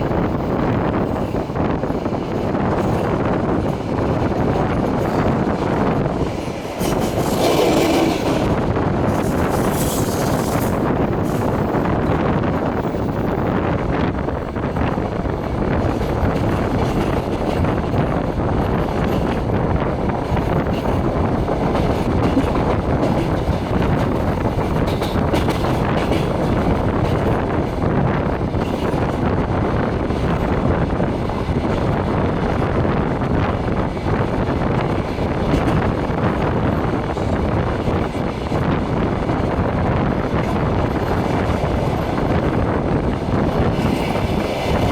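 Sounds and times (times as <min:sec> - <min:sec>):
passenger train running: 0:00.0 - 0:44.9
wind rushing: 0:00.0 - 0:44.9.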